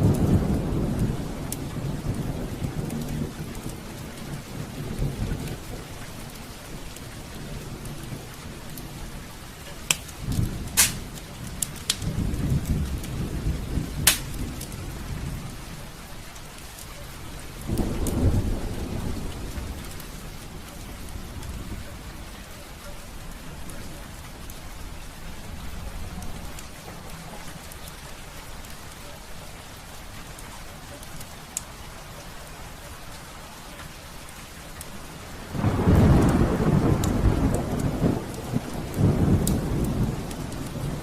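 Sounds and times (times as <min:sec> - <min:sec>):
thunder rumbling: 0:00.0 - 0:16.0, 0:17.2 - 0:28.0, 0:34.8 - 0:41.0
heavy rain falling: 0:00.0 - 0:41.0.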